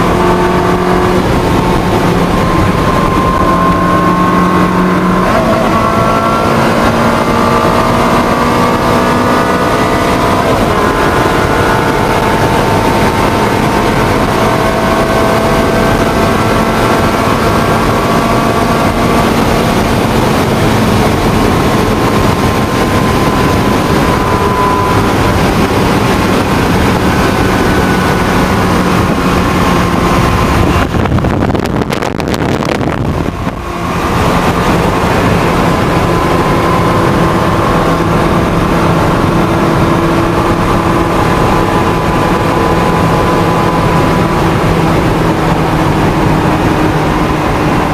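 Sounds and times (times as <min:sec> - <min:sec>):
car engine running: 0:00.0 - 0:47.9
wind noise: 0:00.0 - 0:47.9.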